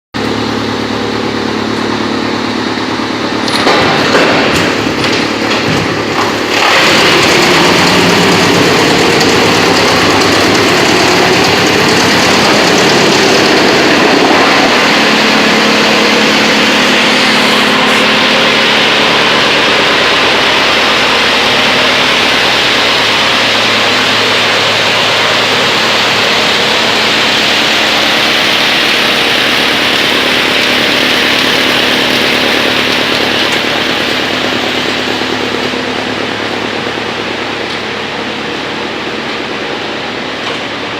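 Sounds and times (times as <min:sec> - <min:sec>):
wood chipper running: 0:00.2 - 0:40.9.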